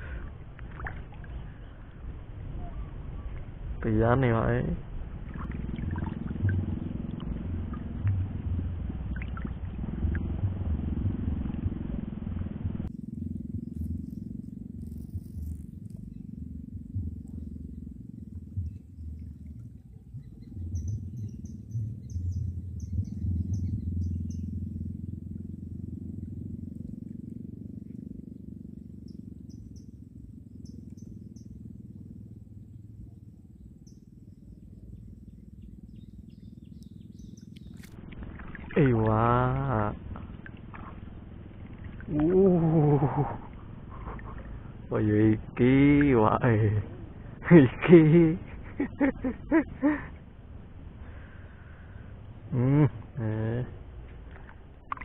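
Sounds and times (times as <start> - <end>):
uneven low rumble: 0.0 - 55.0.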